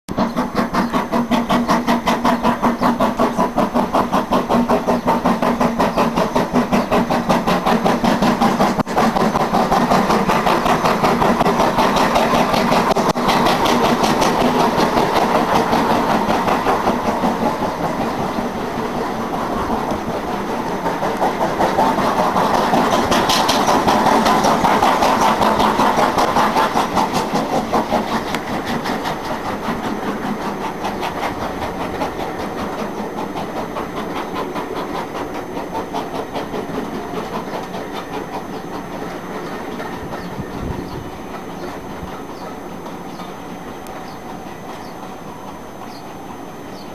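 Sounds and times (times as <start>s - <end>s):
steam locomotive chuffing: 0.1s - 46.9s.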